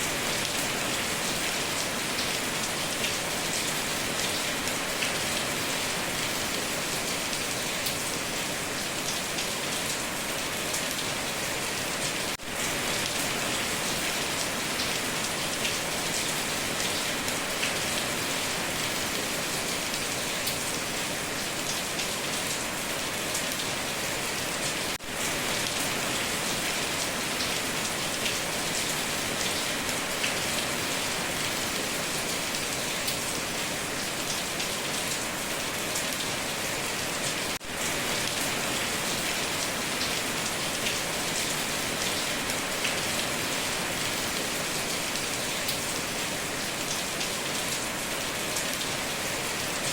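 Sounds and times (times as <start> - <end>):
heavy rain on a tin roof: 0.0 - 49.9.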